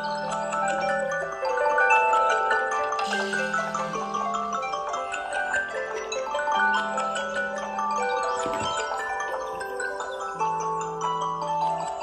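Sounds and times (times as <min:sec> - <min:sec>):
phone alarm marimba melody: 0:00.0 - 0:12.0.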